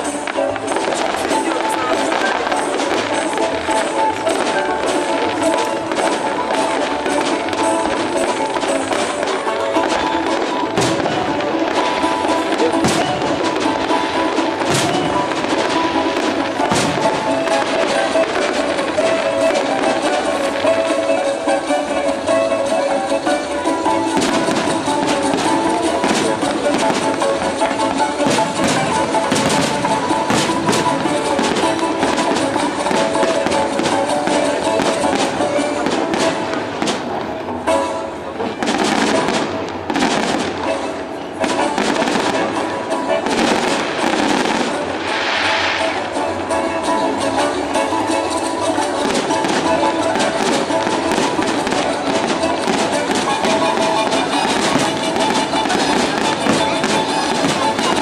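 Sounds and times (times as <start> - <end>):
fireworks show music: 0.0 - 58.0.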